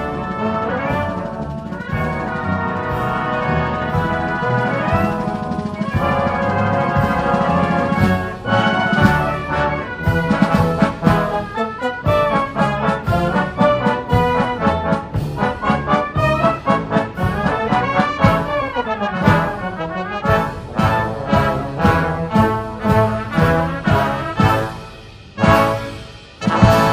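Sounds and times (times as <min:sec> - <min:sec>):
brass band playing anthem: 0:00.0 - 0:26.9.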